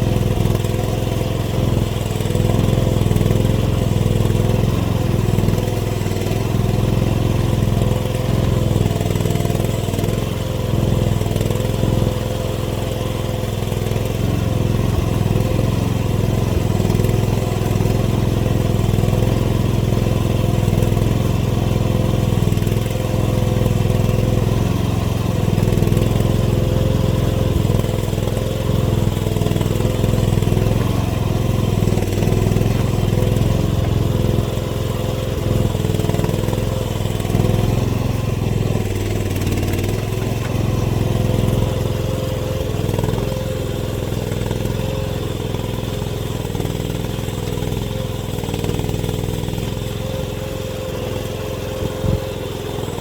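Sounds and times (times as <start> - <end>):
small excavator engine running: 0.0 - 53.0.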